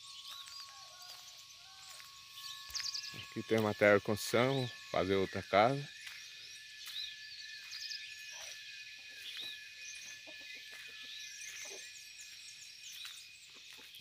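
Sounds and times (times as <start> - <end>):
birds chirping: 0.0 - 14.0
high-pitched insect trill: 0.0 - 14.0.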